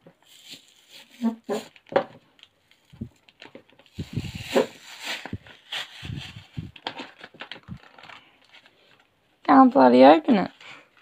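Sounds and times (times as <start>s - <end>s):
packaging rustling and crinkling: 0.1s - 9.2s.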